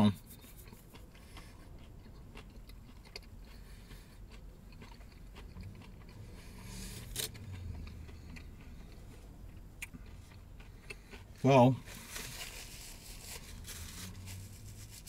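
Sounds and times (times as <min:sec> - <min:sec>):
faint chewing with mouth clicks: 0:00.1 - 0:14.7.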